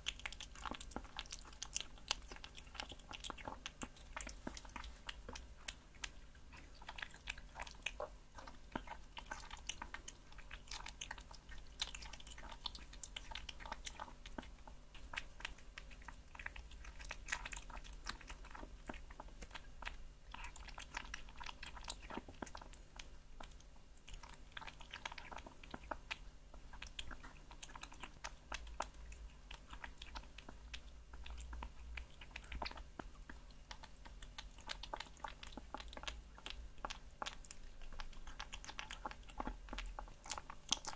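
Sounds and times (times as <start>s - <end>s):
kitten chewing raw meat: 0.0s - 40.9s.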